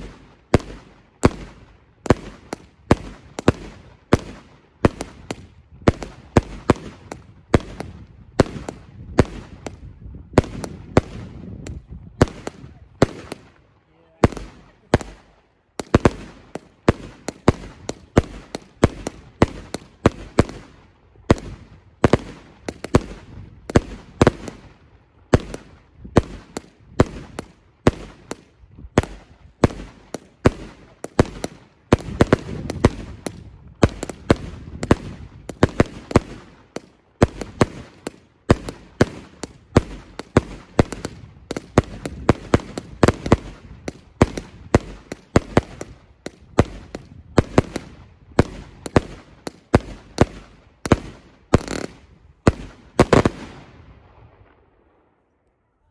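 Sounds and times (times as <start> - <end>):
firework bangs: 0.0 - 13.6, 14.2 - 54.6.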